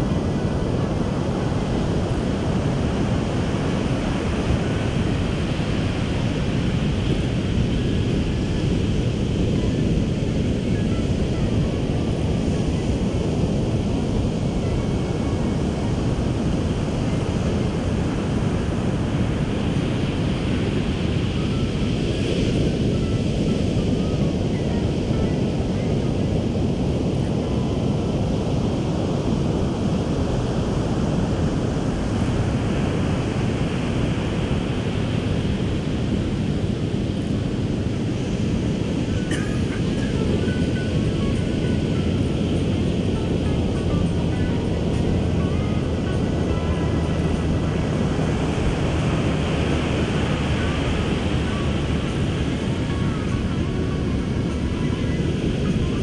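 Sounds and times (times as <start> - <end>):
ocean surf washing: 0.0 - 56.0
wind buffeting microphone: 0.0 - 56.0.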